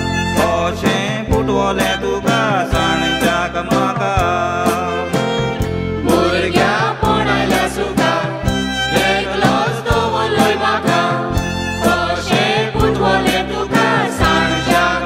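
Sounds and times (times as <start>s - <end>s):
song with voices singing: 0.0s - 15.0s.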